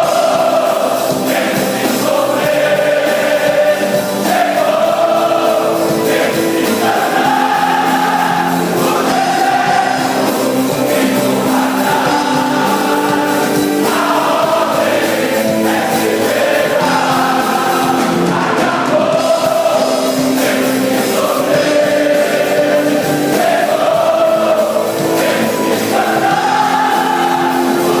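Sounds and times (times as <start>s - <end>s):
choir singing gospel music: 0.0s - 28.0s.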